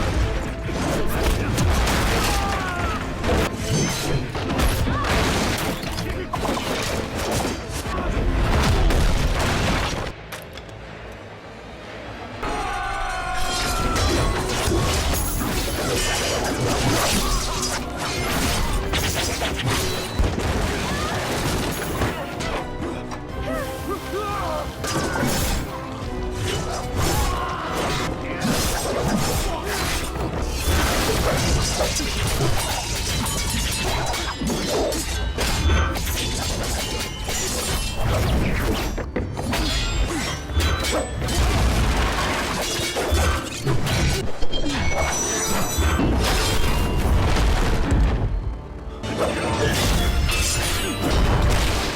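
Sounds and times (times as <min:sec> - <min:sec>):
dramatic score music: 0:00.0 - 0:51.9.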